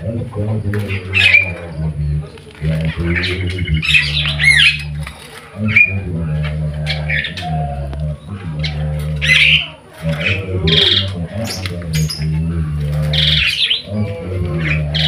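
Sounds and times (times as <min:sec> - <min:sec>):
caged birds calling: 0:00.0 - 0:15.0
steady low hum: 0:00.0 - 0:15.0.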